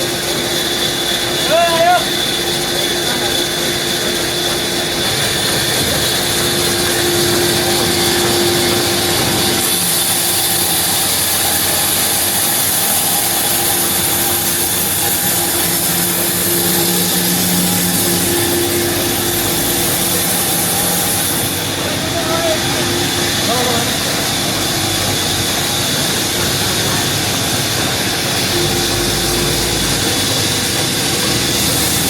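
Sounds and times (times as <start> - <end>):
sawmill saw machinery running: 0.0 - 32.0
strong high hiss: 5.9 - 32.0.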